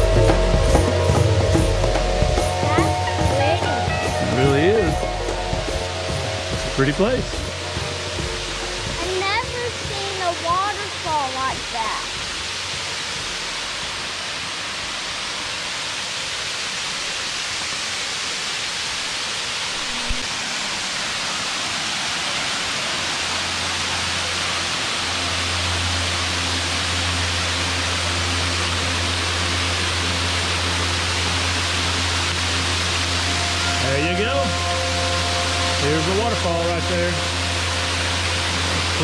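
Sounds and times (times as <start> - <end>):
waterfall splashing over rocks: 0.0 - 39.0.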